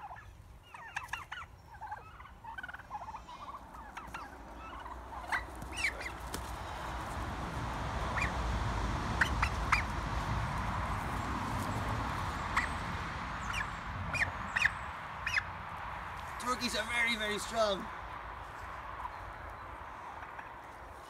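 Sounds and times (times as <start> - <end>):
turkeys gobbling: 0.0 - 18.1, 19.0 - 21.0.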